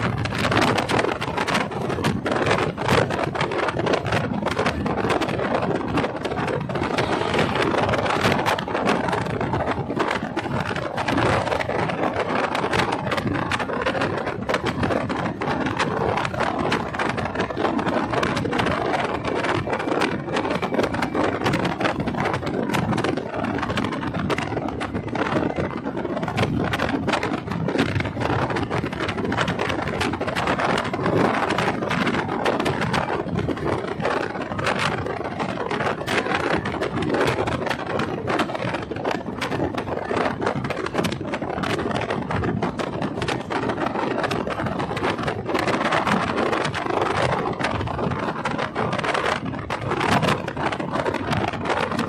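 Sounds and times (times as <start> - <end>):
moving vehicle rumbling: 0.0 - 52.0.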